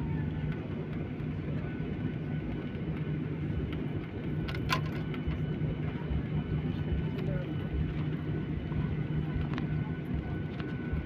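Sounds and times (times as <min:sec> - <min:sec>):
airliner engines and cabin hum: 0:00.0 - 0:11.0.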